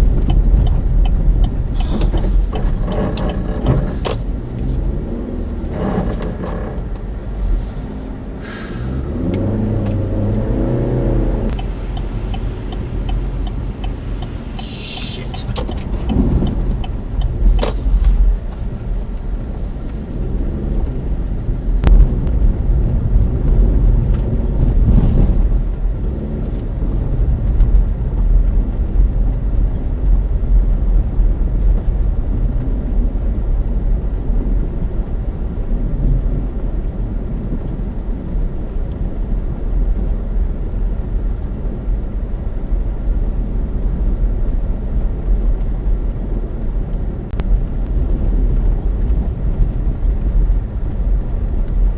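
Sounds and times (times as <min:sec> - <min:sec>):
car engine and road rumble: 0:00.0 - 0:51.9.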